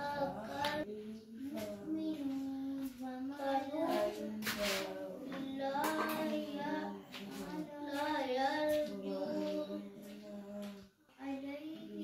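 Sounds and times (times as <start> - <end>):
high voice singing slow melody: 0.0 - 12.0.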